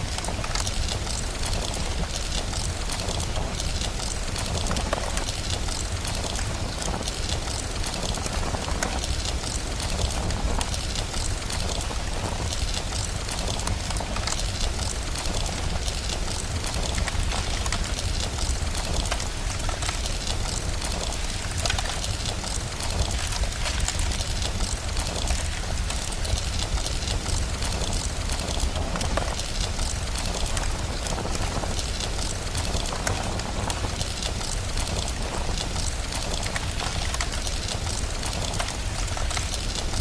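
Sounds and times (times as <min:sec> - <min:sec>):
steady rain: 0:00.0 - 0:40.0
wood fire crackling: 0:00.0 - 0:40.0.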